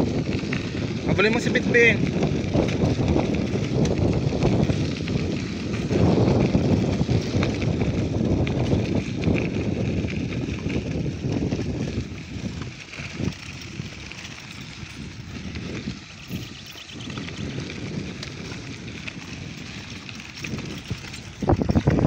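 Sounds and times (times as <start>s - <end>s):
bicycle tyres crunching gravel: 0.0s - 22.0s
bike rattling: 0.0s - 22.0s.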